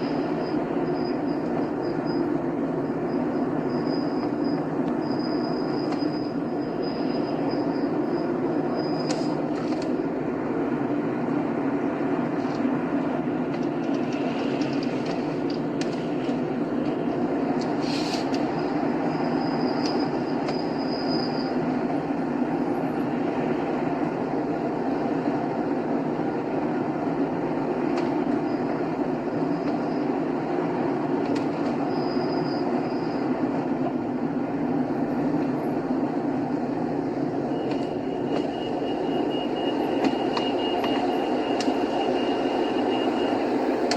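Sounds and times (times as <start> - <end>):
car road noise on highway: 5.9 - 31.9, 32.7 - 43.9.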